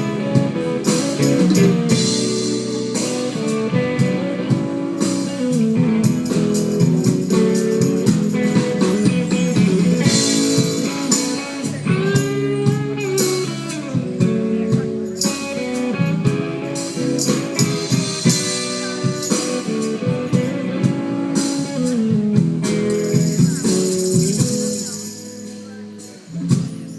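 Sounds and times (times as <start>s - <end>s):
live blues band with guitar: 0.0s - 26.9s.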